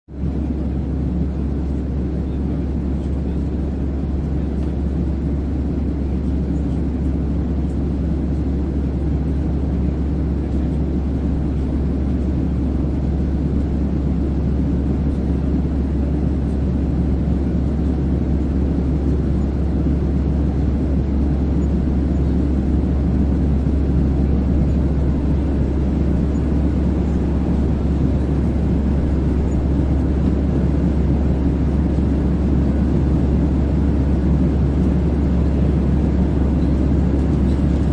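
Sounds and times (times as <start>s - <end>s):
airplane engine rumble: 0.1s - 37.9s.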